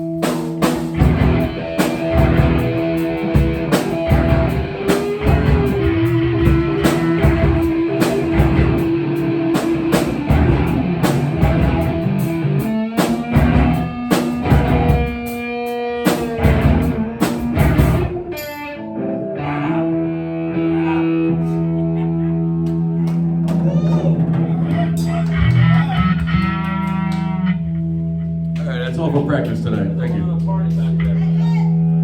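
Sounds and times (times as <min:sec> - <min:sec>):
rock music: 0:00.0 - 0:32.0.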